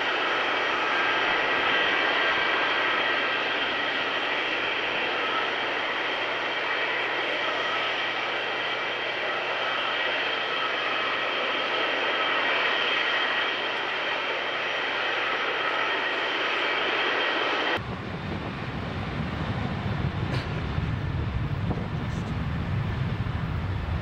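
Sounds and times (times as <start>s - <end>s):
deep jet engine rumble: 0.0s - 24.0s
jet engine whine: 0.0s - 24.0s.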